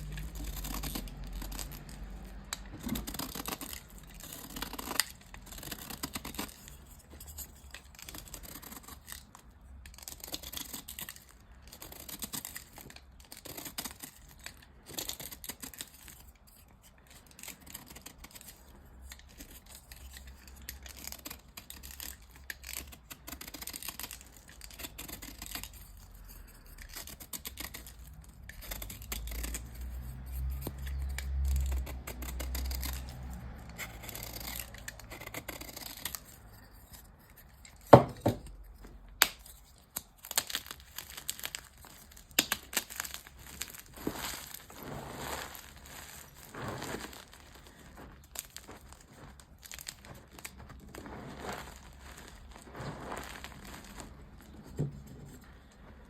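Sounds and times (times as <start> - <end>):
chalk crunching and crumbling: 0.0 - 56.0.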